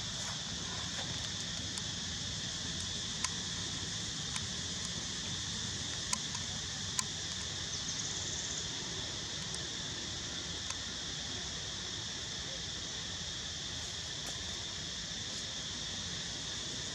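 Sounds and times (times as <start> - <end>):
insects buzzing: 0.0 - 16.9.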